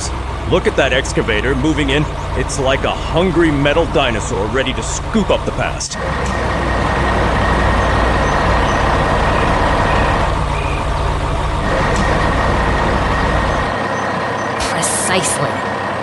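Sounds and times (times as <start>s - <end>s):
heavy vehicle engine rumbling: 0.0s - 16.0s.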